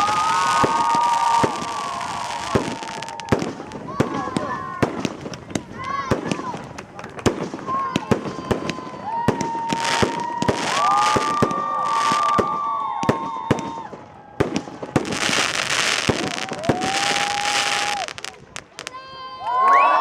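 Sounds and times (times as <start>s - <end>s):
fireworks hissing: 0.0s - 19.0s
fireworks bangs and crackles: 0.0s - 19.3s.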